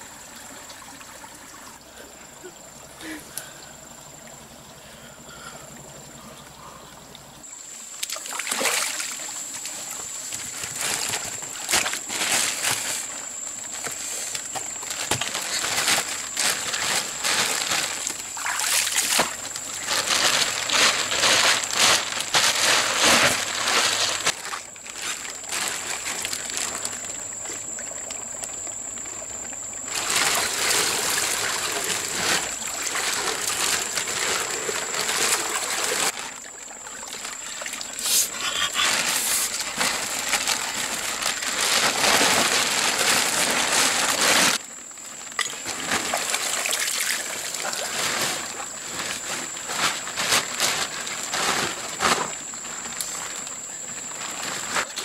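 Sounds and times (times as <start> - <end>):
water splashing and trickling: 0.0 - 51.4.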